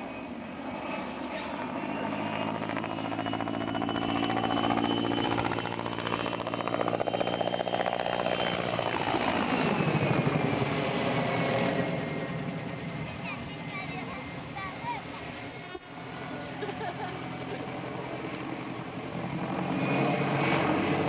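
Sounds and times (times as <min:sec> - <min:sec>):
helicopter turbine whine: 0:00.0 - 0:21.0.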